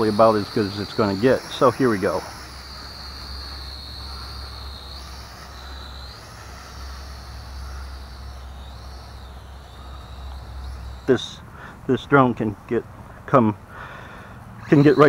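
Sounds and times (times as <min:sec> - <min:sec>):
toy drone propellers whining: 0:00.0 - 0:12.1, 0:13.8 - 0:15.0.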